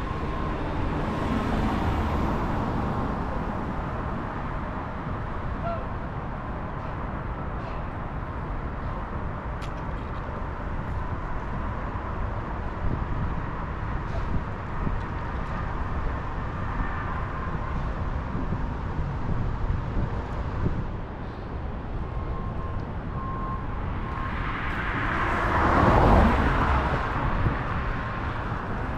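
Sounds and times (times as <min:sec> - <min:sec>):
truck engine low rumble: 0:00.0 - 0:28.9.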